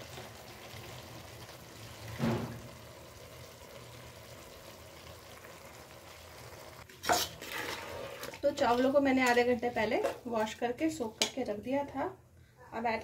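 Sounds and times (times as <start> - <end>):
sauce sizzling in a pot: 0.0 - 11.0.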